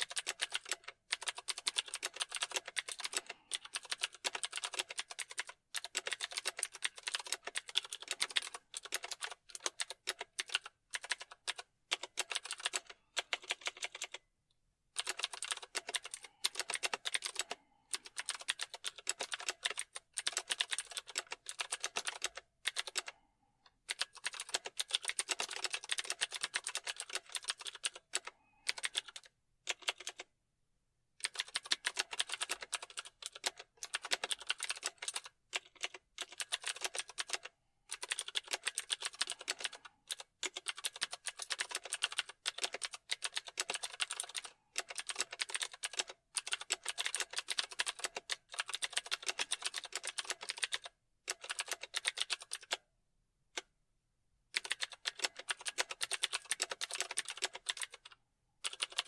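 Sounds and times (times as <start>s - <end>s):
keyboard typing: 0.0s - 14.2s, 15.0s - 23.2s, 23.8s - 30.3s, 31.2s - 52.8s, 54.5s - 59.0s.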